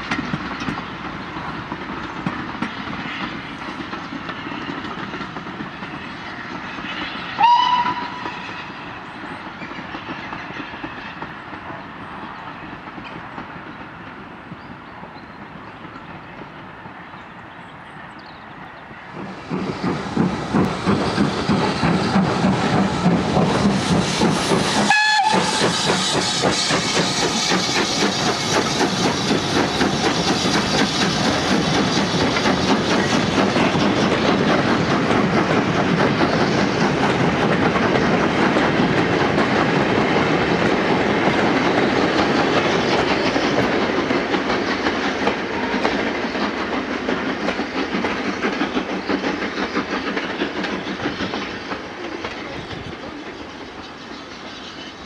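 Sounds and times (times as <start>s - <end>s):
hissing steam: 0.0s - 17.1s, 18.9s - 55.0s
steam locomotive chuffing: 0.0s - 18.1s, 18.9s - 55.0s.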